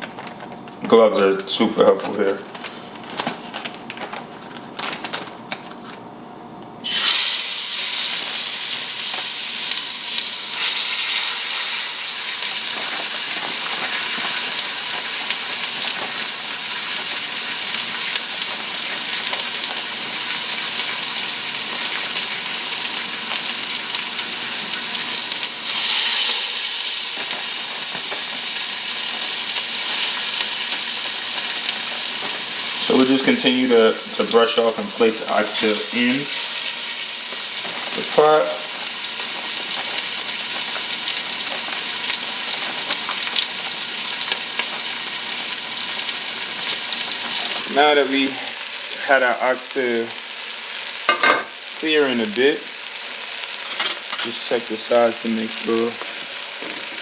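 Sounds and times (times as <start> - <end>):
meat sizzling in hot oil: 6.8 - 57.0.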